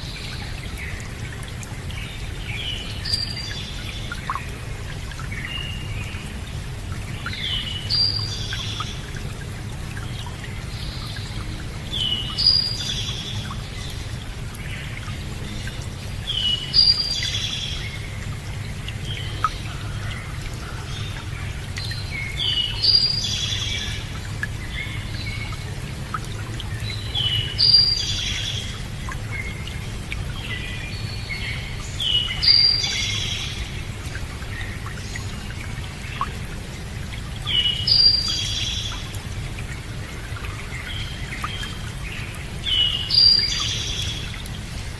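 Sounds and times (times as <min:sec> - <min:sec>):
running water: 0:00.0 - 0:44.9.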